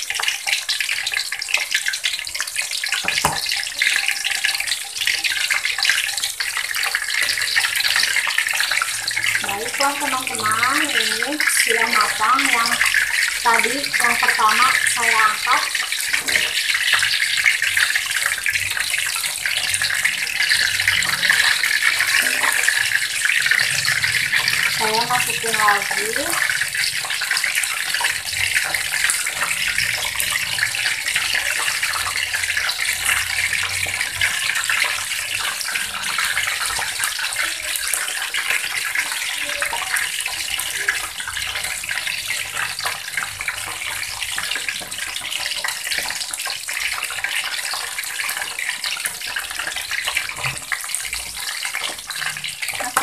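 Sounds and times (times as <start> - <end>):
fritters deep-frying in oil: 0.0 - 53.0.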